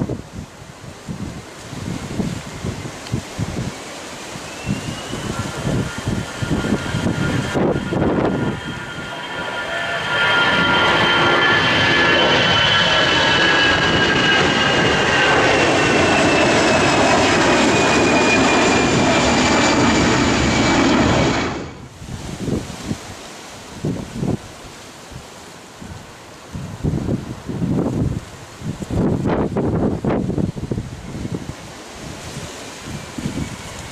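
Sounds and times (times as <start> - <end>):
jet airliner passing low: 0.0 - 33.9
wind buffeting microphone: 0.0 - 33.9.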